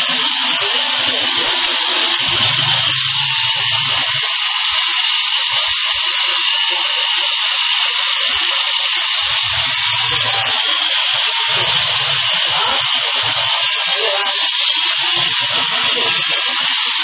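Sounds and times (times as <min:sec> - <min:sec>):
remote-control helicopter buzzing whine: 0:00.0 - 0:17.0.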